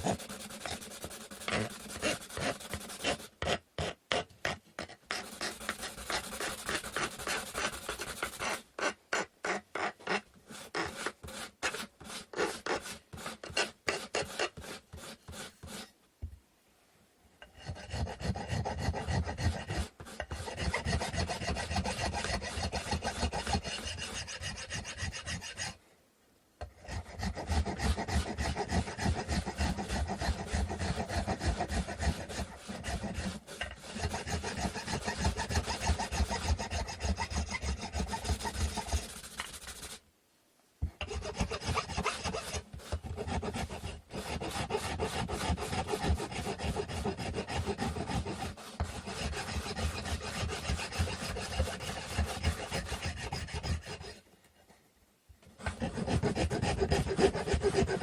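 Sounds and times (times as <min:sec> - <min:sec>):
hand tool rasping wood: 0:00.0 - 0:15.9, 0:17.6 - 0:25.7, 0:26.8 - 0:40.0, 0:41.0 - 0:54.2, 0:55.6 - 0:58.0.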